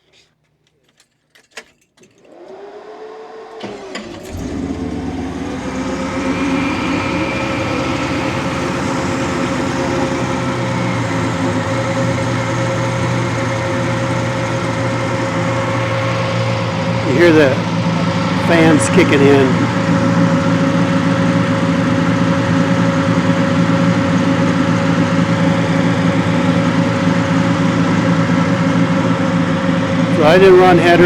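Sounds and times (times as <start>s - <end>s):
engine cranking and idling: 2.2s - 31.0s.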